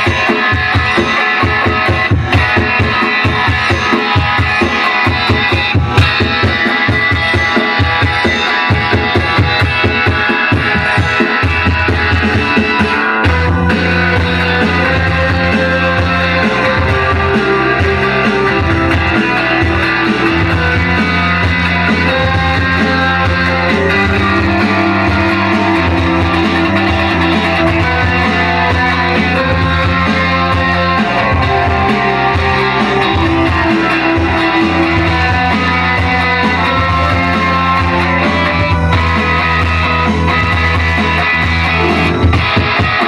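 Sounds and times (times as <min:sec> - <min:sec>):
live rock band playing: 0:00.0 - 0:43.0.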